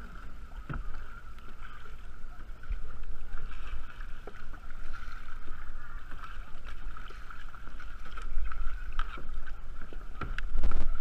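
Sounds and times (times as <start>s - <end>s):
paddle strokes: 0.0s - 11.0s
water splashing against hull: 0.0s - 11.0s
wind rumble on microphone: 0.0s - 11.0s.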